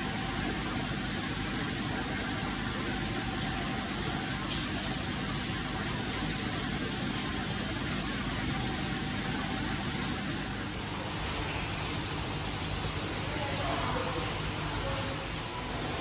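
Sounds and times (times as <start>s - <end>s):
aquarium pumps hissing and humming: 0.0s - 16.0s.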